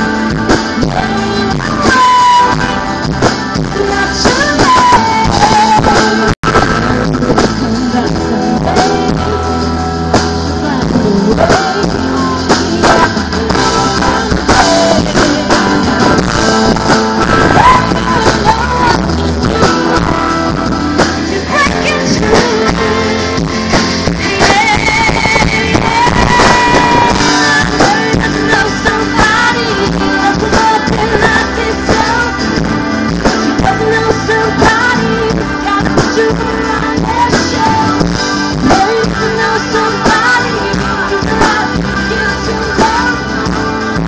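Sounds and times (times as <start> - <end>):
live pop rock band: 0.0 - 44.0.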